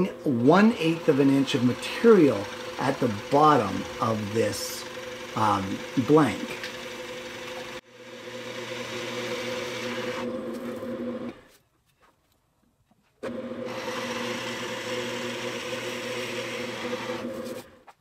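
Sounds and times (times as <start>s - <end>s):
drill bit cutting wood: 0.0s - 11.4s, 13.3s - 17.7s
drill press motor hum: 0.0s - 11.5s, 13.2s - 17.8s.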